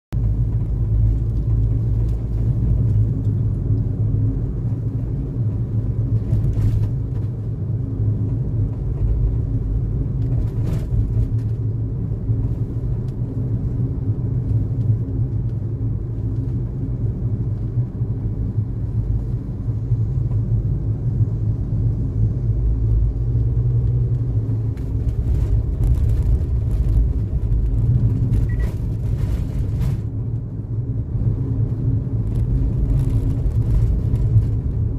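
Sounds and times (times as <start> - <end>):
car driving rumble: 0.1 - 34.9.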